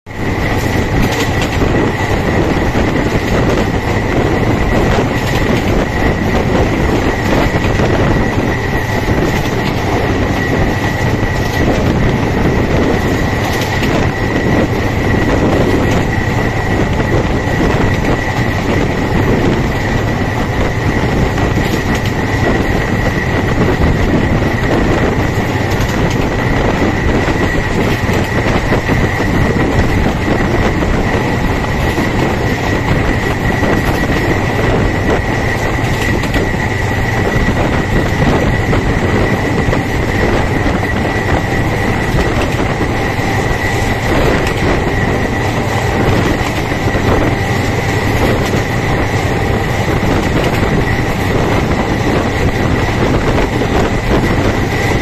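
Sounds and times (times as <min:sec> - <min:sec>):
train wheels rumbling on rails: 0:00.1 - 0:55.0.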